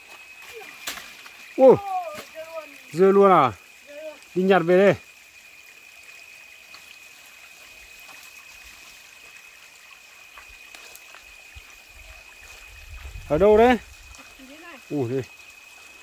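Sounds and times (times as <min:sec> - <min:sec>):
faint stream water: 0:00.0 - 0:16.0.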